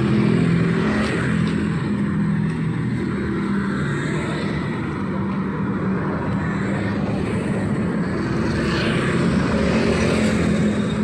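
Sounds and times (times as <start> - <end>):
traffic passing: 0.0 - 11.0.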